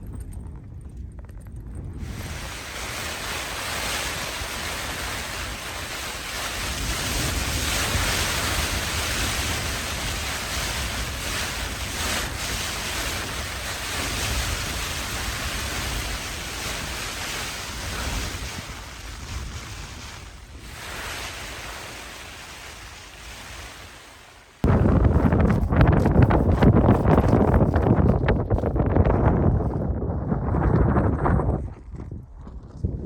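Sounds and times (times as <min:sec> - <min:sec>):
strong wind gusting: 0:00.0 - 0:33.0
wind buffeting microphone: 0:00.0 - 0:33.0.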